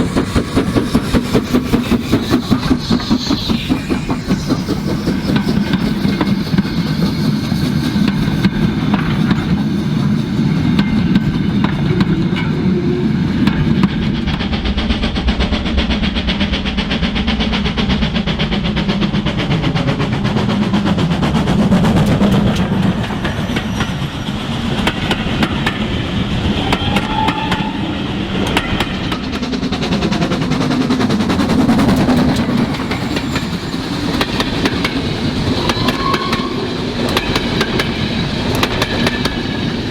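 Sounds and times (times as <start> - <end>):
train wheels clicking on rails: 0.0 - 39.9.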